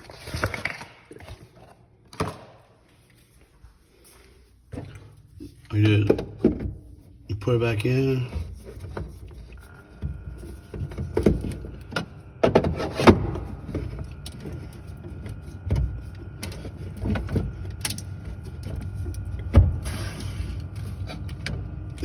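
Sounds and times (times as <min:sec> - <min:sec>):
faint steady whine: 0:02.9 - 0:22.0.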